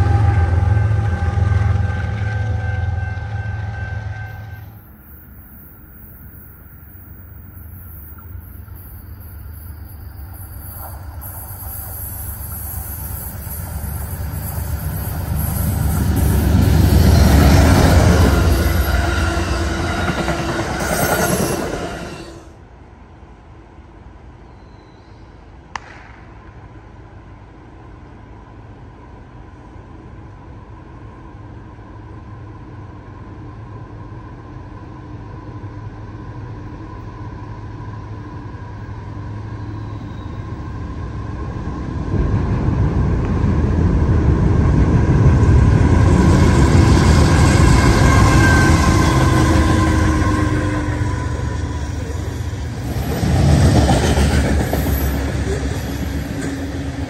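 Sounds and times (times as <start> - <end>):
train rumbling past: 0.0 - 57.0.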